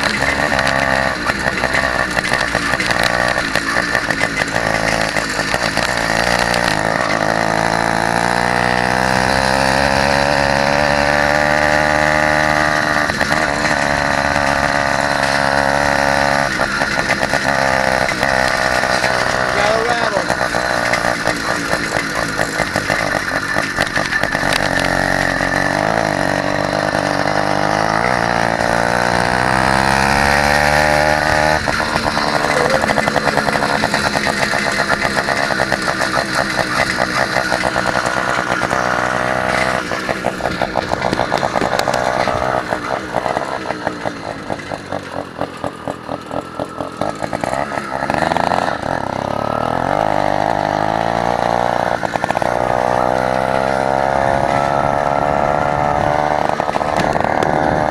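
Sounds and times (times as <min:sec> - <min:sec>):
small two-stroke engine buzzing: 0:00.0 - 0:57.9.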